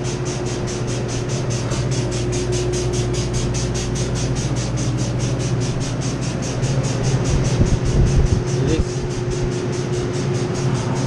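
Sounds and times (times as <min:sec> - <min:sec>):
cooler fans humming and pulsing: 0:00.0 - 0:11.0.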